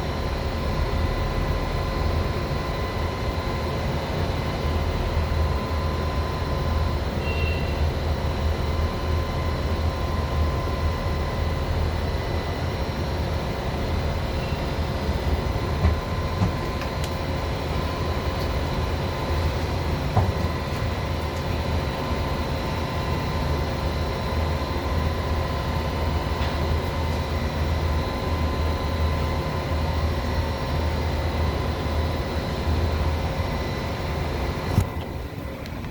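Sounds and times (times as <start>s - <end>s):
machine humming and whining: 0.0s - 35.9s.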